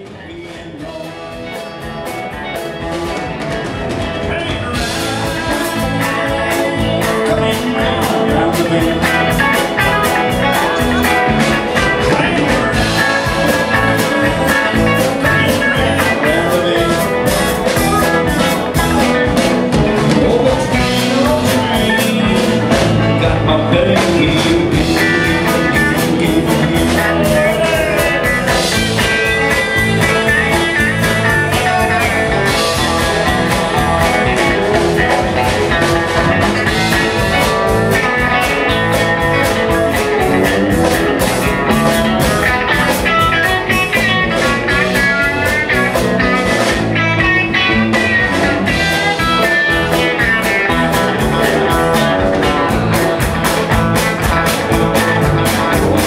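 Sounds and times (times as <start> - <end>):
drums: 0.0 - 56.0
electric guitars: 0.0 - 56.0
lead guitar bending lines: 0.0 - 56.0.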